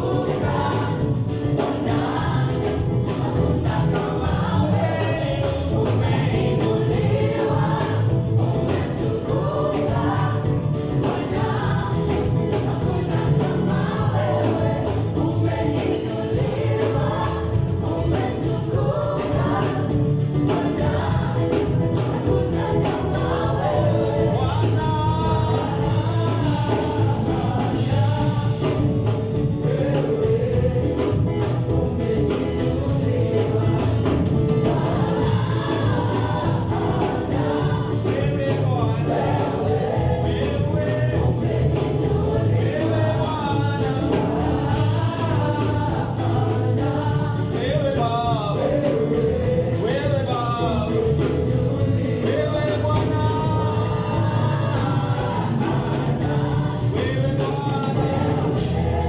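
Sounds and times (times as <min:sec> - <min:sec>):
full band playing: 0:00.0 - 0:59.0
group singing gospel song: 0:00.0 - 0:59.0.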